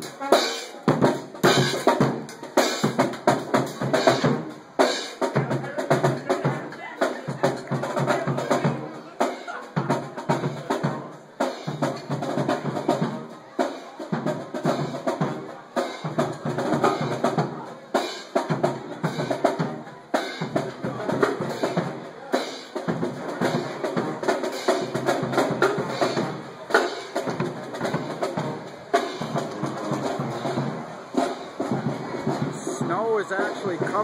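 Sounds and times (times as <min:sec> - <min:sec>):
marching band playing: 0:00.0 - 0:34.0
snare and bass drums beating: 0:00.0 - 0:34.0.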